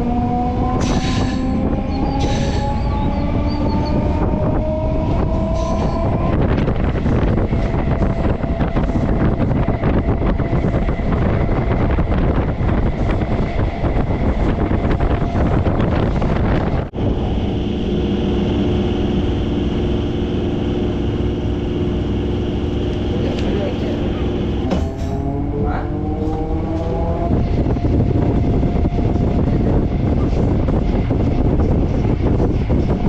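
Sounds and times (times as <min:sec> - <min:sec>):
electric train rattling on track: 0:00.0 - 0:33.0
smooth train running hum: 0:00.0 - 0:33.0.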